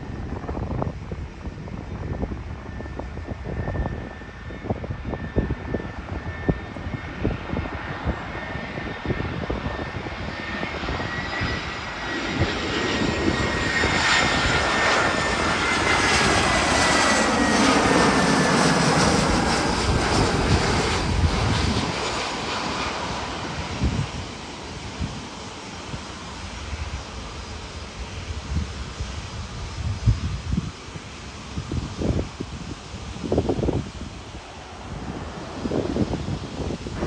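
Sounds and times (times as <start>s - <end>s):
jet airliner engines whining: 0.0s - 37.0s.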